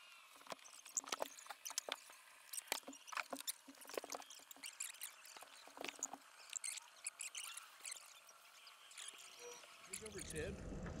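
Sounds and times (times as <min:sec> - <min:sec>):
faint high squeaks: 0:00.6 - 0:11.0.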